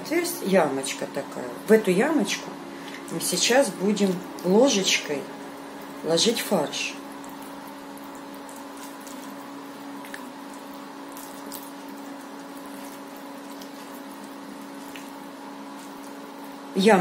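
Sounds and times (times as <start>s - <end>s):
steady hum with hiss: 0.0s - 17.0s.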